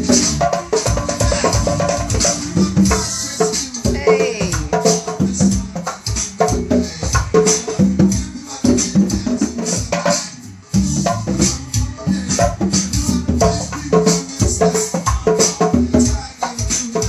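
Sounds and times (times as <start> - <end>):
backing music: 0.0 - 17.0
conga drums played by hand: 0.0 - 17.0.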